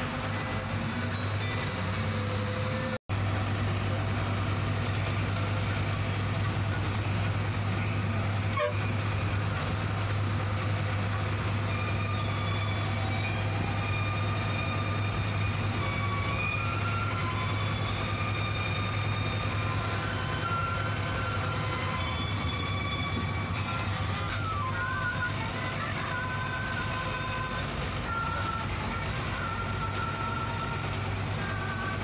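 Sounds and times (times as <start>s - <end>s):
bus diesel engine drone: 0.0s - 32.0s
tyre and road noise: 0.0s - 32.0s.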